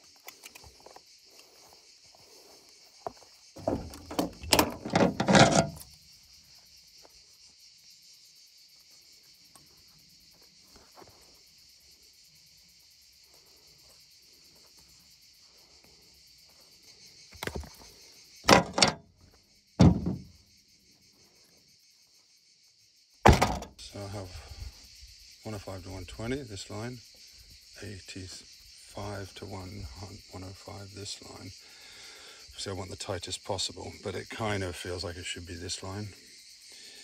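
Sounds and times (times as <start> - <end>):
high-pitched insect buzz: 0.0 - 32.5.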